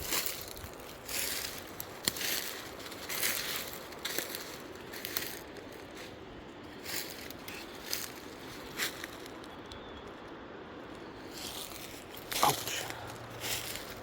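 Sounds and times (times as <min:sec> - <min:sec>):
footsteps crunching undergrowth: 0:00.0 - 0:09.6, 0:11.2 - 0:14.0.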